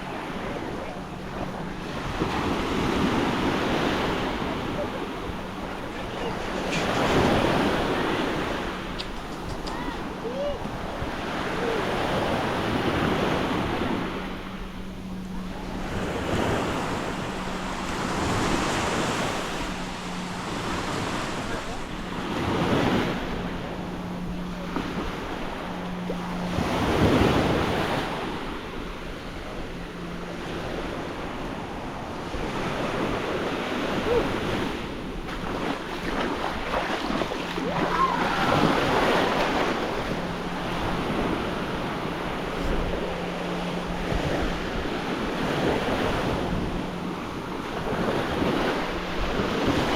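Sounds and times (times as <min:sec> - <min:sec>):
small waves washing onto beach: 0:00.0 - 0:49.9
wind buffeting microphone: 0:00.0 - 0:49.9.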